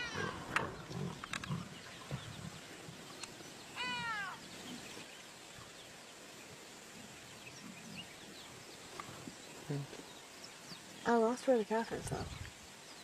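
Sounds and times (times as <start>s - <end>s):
outdoor background: 0.0s - 13.0s.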